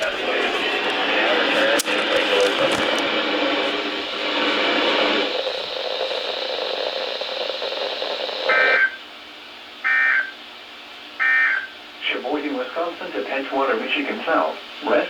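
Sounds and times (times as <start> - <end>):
radio broadcast hiss: 0.0 - 9.2, 11.2 - 15.0.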